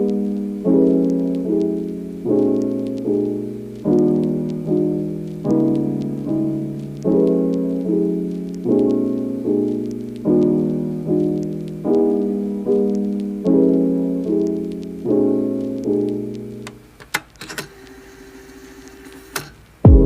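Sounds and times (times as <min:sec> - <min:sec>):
piano chords: 0:00.0 - 0:16.8.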